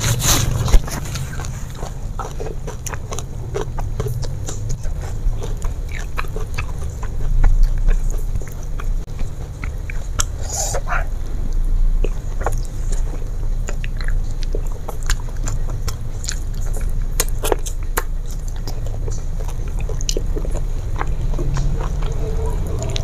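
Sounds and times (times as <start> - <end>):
person chewing fried chicken: 0.0 - 23.0.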